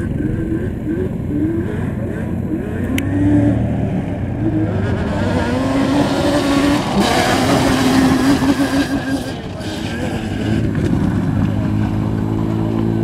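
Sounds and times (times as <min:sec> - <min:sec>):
two-stroke quad engine revving: 0:00.0 - 0:13.0.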